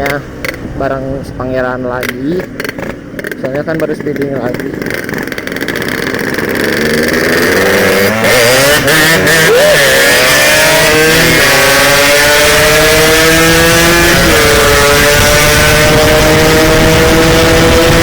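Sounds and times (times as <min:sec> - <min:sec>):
motorcycle engine at full throttle: 0:00.0 - 0:18.0.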